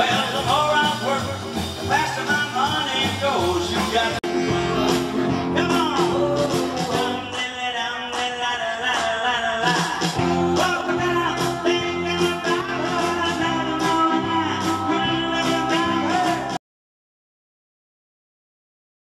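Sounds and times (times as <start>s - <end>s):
dance music with singing: 0.0s - 16.6s.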